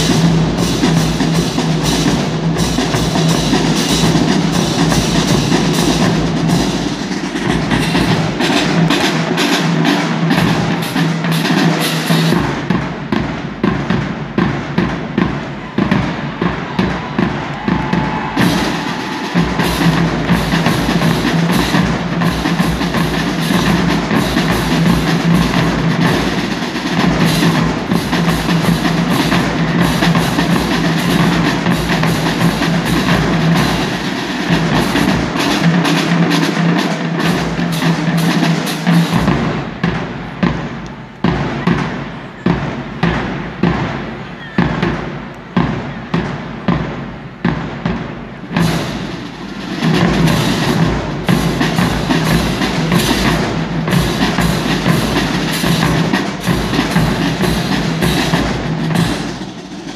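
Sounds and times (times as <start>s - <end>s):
marching drumline drumming: 0.0s - 59.9s.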